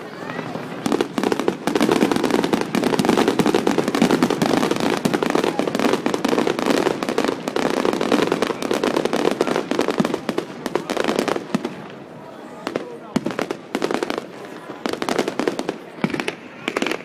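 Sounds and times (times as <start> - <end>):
fireworks crackling bangs: 0.0 - 17.0.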